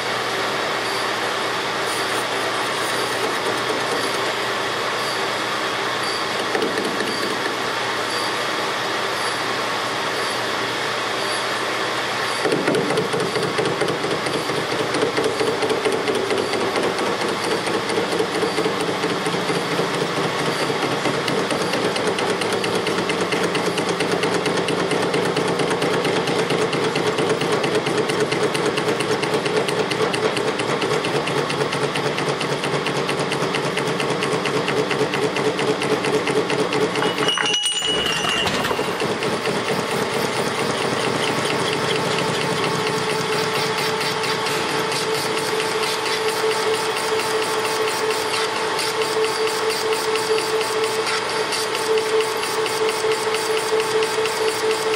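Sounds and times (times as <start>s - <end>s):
metal lathe machining: 0.0s - 54.9s.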